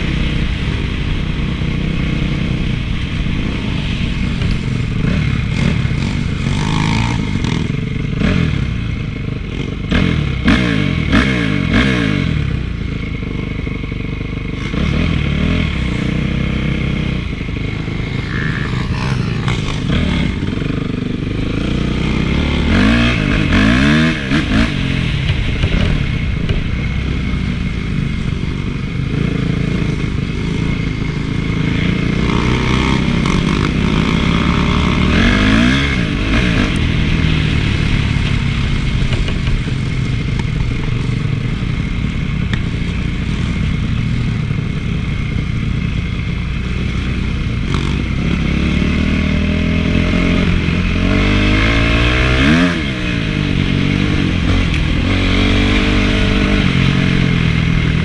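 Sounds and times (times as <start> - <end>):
motocross bike engine revving: 0.0 - 12.8, 13.4 - 58.0.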